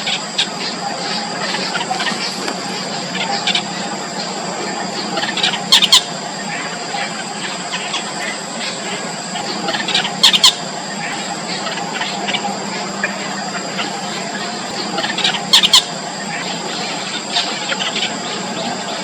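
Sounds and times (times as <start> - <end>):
nestlings squeaky calls: 0.0 - 19.0
steady high-pitched tone: 0.0 - 19.0.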